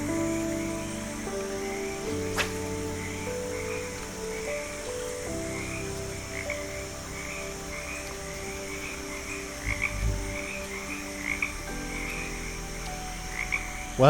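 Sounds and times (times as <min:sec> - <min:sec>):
frogs calling: 0:00.0 - 0:14.0.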